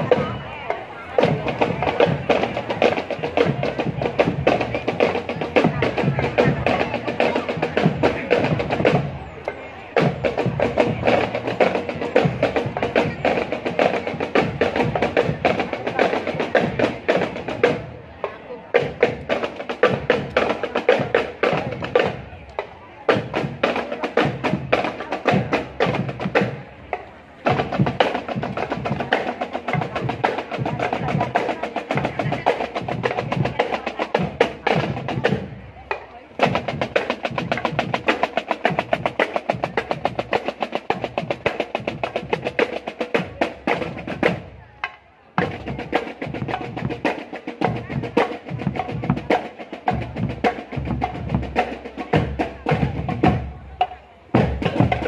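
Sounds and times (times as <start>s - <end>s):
marching snare and bass drums: 0.0s - 55.0s.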